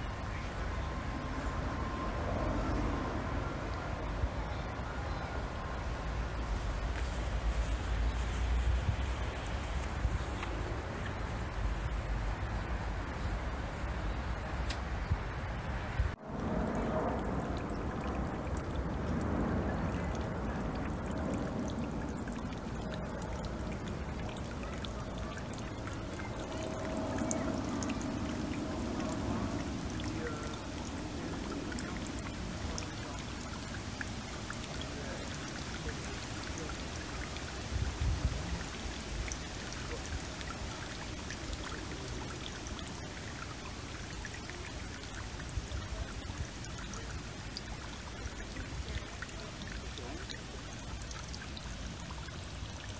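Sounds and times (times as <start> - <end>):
aircraft rumble: 0.0 - 43.1
water splashes and drips: 0.0 - 52.9
water trickling into stone basin: 0.0 - 52.9.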